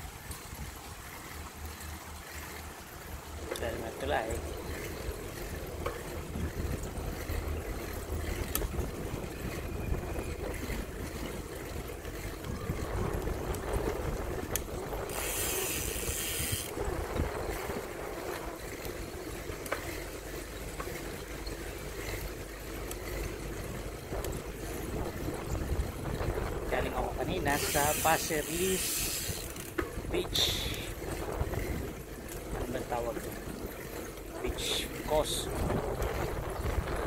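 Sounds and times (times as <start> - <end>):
bicycle riding rumble: 0.0 - 37.0
wind rushing over microphone: 3.6 - 19.6, 23.3 - 37.0.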